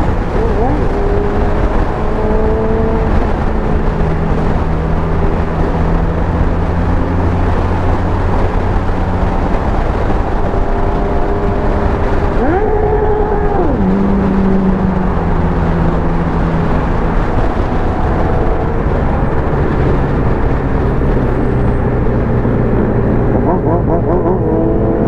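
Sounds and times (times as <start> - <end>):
motorcycle engine running: 0.0 - 25.0
wind on microphone: 0.0 - 25.0.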